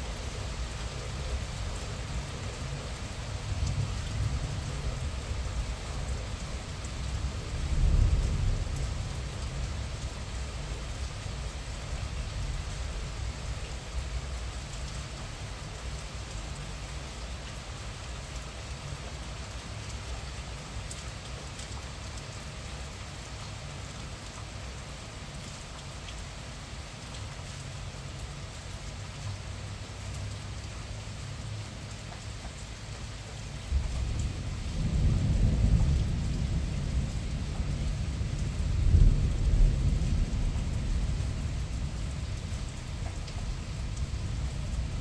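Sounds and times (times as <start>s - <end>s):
rain falling: 0.0s - 45.0s.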